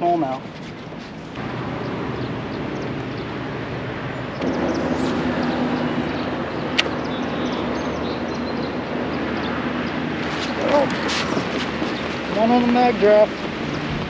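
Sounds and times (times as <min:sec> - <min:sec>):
wind: 0:00.0 - 0:14.0
electric outboard motor humming: 0:01.4 - 0:14.0.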